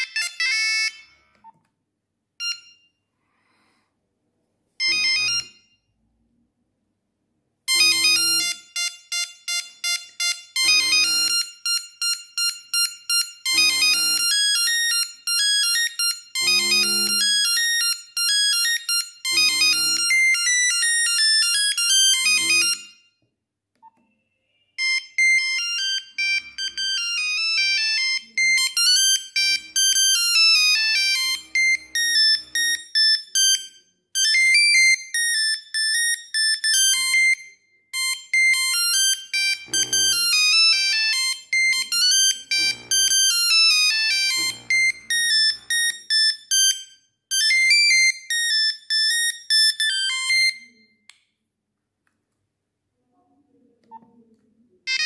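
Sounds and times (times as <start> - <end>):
monophonic phone ringtones: 0.0 - 1.6, 2.4 - 3.0, 4.8 - 6.0, 7.7 - 23.1, 23.8 - 51.0.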